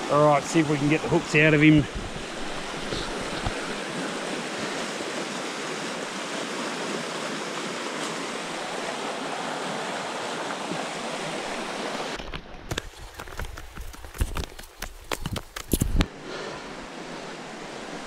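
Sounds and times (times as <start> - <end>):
creek rushing over rapids: 0.0 - 12.2, 12.8 - 18.0.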